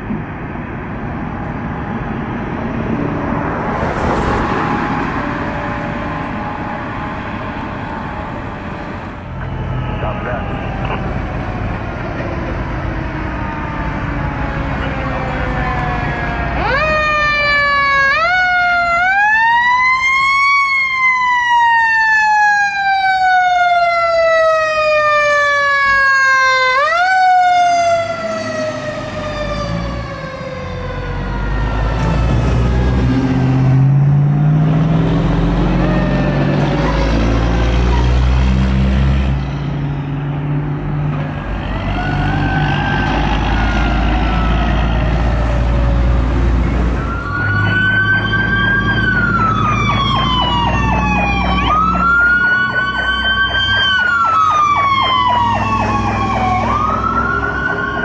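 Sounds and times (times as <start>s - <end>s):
diesel fire engine rumbling past: 0.0s - 58.0s
fire truck siren wailing: 0.9s - 58.0s
faint distant siren: 1.7s - 58.0s.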